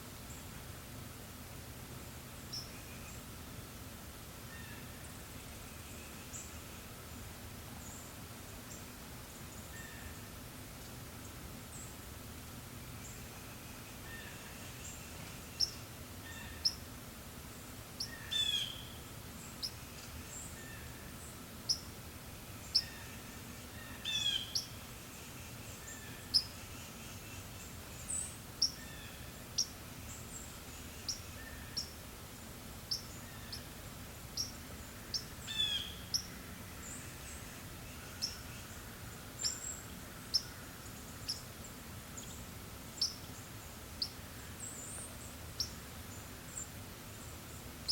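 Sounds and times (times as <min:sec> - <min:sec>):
faint breeze: 0:00.0 - 0:47.9.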